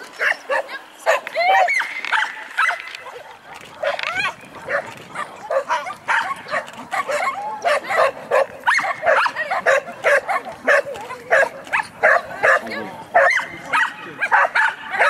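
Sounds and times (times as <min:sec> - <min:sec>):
dog barking: 0:00.2 - 0:15.0.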